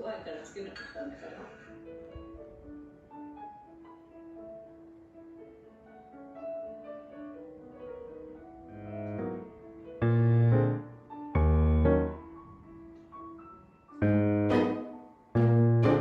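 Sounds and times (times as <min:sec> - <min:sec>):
soft piano music: 0:01.6 - 0:16.0.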